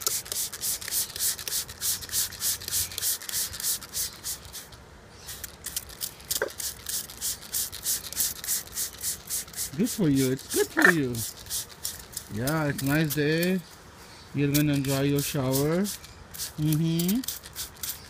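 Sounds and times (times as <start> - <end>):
spray bottle squirting mist: 0.0 - 13.6, 14.6 - 18.0.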